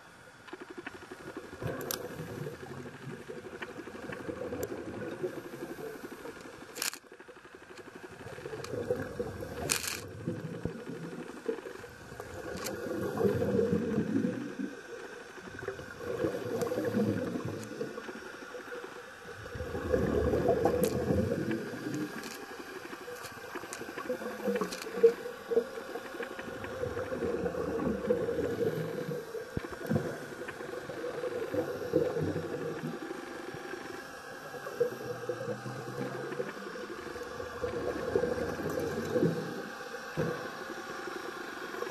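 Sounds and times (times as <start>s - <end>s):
underwater bubbles gurgling: 0.0s - 41.9s.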